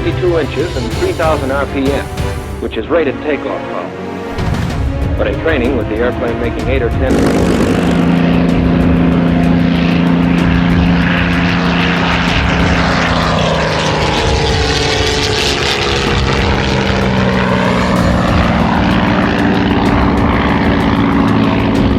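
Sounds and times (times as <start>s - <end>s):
aircraft engine and propeller: 0.0s - 21.9s.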